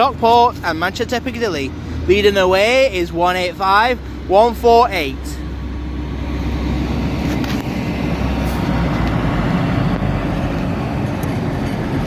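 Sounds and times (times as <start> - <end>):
diesel train engines rumbling: 0.0 - 12.0.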